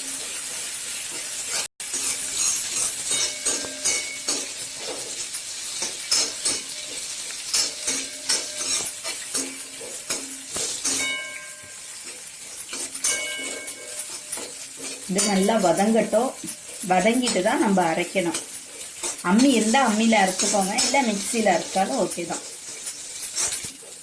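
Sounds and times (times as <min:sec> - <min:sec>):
spoon stirring and scraping a pan: 0:00.0 - 0:24.0
vegetables sizzling: 0:00.0 - 0:24.0.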